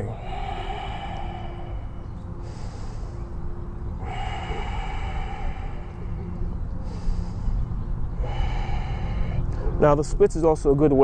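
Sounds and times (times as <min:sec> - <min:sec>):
person breathing deeply: 0:00.0 - 0:09.8.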